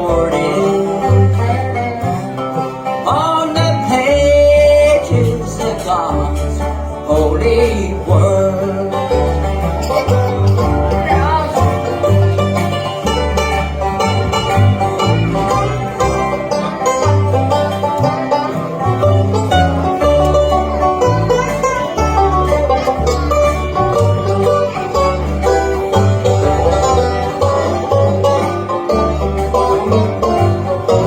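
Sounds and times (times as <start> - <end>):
banjo playing: 0.0 - 31.0
bluegrass band playing: 0.0 - 31.0.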